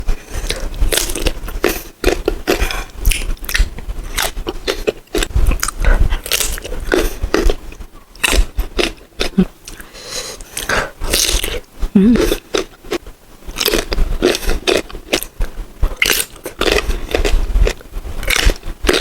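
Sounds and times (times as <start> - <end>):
crunchy chewing of mango: 0.0 - 19.0.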